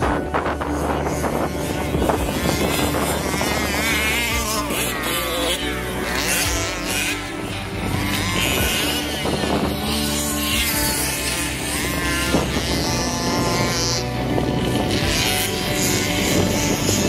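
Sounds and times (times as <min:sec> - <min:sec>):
small engines revving: 0:00.0 - 0:17.0.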